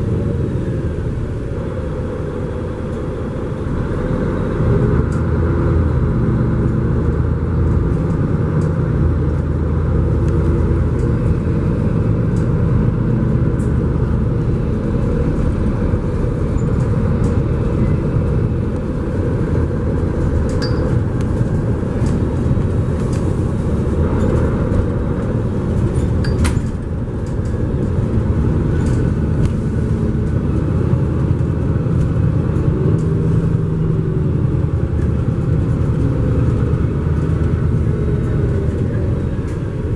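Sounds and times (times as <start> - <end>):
bus engine drone: 0.0 - 39.9
road rumble: 0.0 - 39.9.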